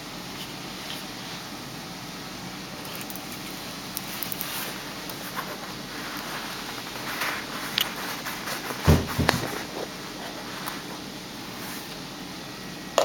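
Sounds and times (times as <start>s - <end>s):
aquarium pump humming and hissing: 0.0s - 13.0s.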